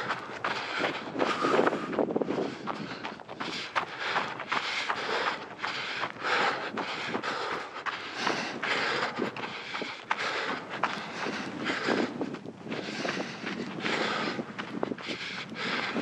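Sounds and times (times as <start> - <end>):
running footsteps on a trail: 0.0 - 16.0
wind buffeting microphone: 0.0 - 16.0.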